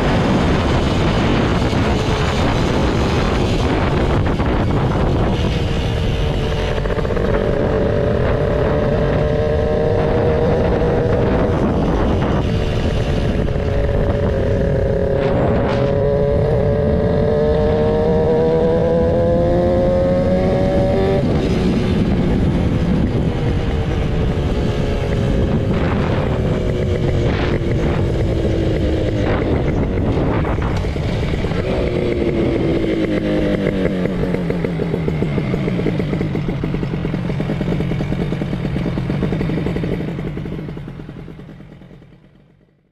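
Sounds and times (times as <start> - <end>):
wind and road noise: 0.0 - 42.6
two-stroke motorcycle engine: 0.0 - 42.9.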